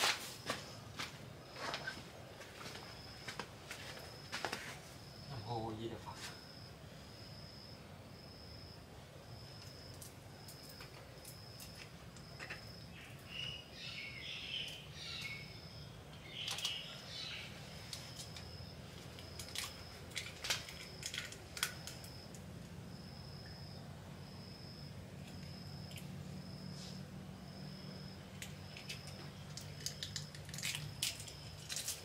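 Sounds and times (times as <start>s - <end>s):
insect chirping: 0.0s - 32.0s.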